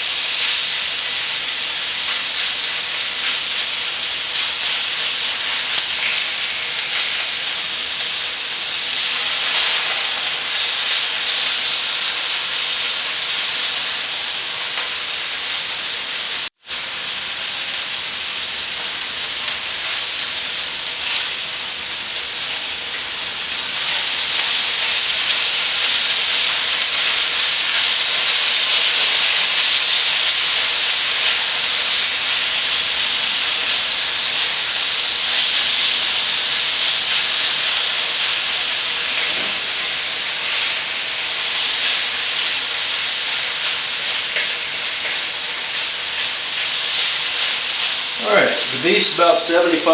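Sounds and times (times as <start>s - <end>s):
meat sizzling in hot oil: 0.0s - 49.9s.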